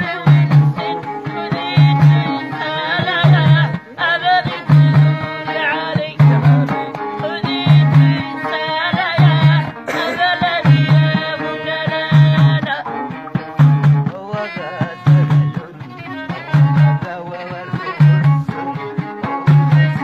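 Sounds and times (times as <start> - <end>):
people singing: 0.0 - 12.9, 14.0 - 20.0
frame drums beating: 0.0 - 20.0
plucked lute: 0.0 - 20.0.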